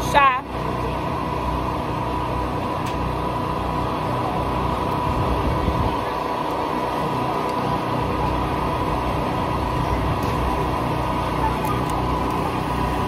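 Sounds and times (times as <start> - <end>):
machinery low drone: 0.0 - 13.0
machinery steady whine: 0.0 - 13.0.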